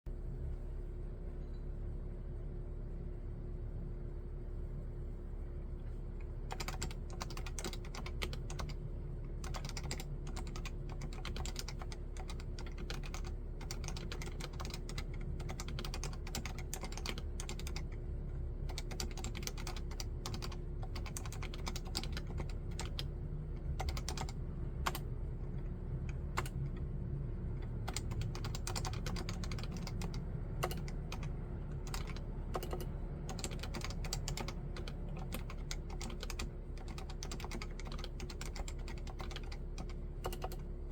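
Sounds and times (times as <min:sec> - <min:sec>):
keyboard typing: 0:06.5 - 0:18.0, 0:18.6 - 0:26.9, 0:27.6 - 0:40.9.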